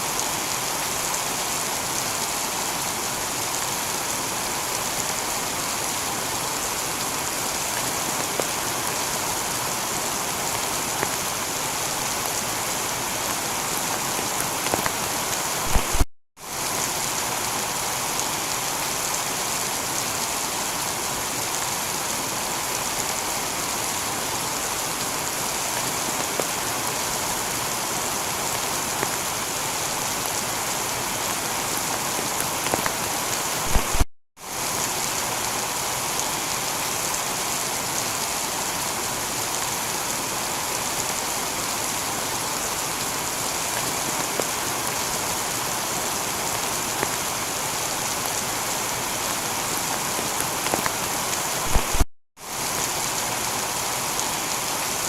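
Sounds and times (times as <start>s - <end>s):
heavy rain on a tiled roof: 0.0s - 55.0s.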